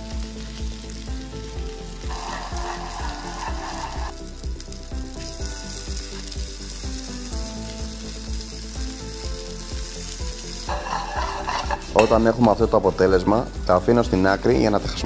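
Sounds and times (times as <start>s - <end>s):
gnocchi sizzling in oil: 0.0s - 15.0s.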